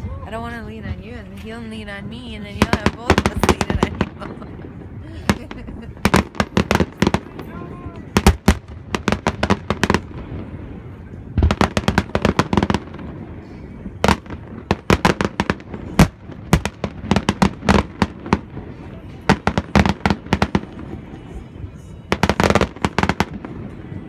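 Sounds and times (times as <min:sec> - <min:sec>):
fireworks bangs: 0:01.4 - 0:24.0.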